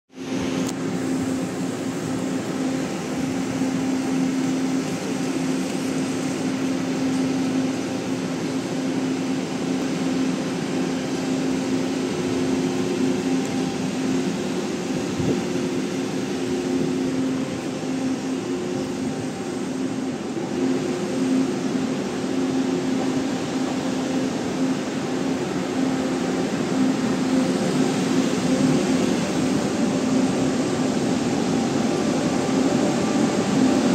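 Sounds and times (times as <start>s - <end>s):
electric train humming: 0.1s - 33.9s.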